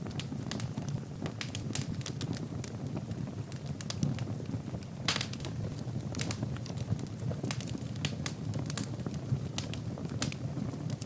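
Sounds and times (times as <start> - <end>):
low rush of flame: 0.0 - 11.0
wood crackling and popping: 0.0 - 11.0.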